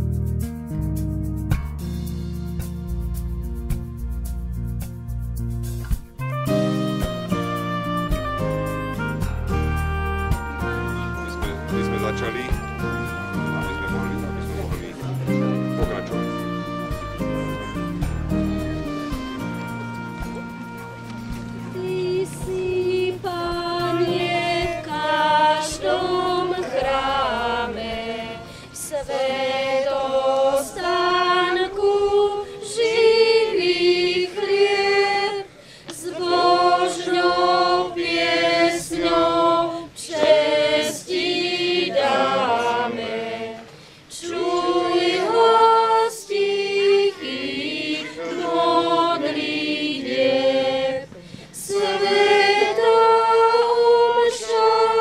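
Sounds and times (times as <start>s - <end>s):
congregation singing a hymn: 7.2s - 55.0s.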